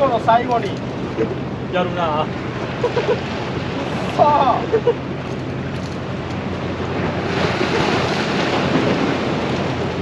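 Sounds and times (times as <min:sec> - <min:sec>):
surf washing against rocks: 0:00.0 - 0:10.0
wind buffeting microphone: 0:00.0 - 0:10.0.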